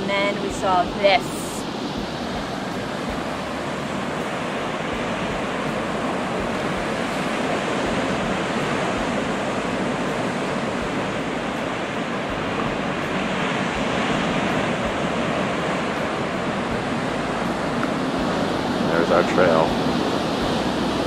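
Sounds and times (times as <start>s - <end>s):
ocean surf breaking on rocks: 0.0s - 21.0s.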